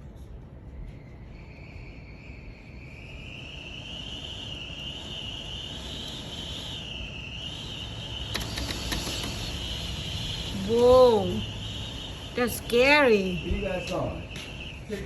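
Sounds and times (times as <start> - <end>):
low wind rumble: 0.0 - 15.0
storm wind whistling: 0.0 - 15.0.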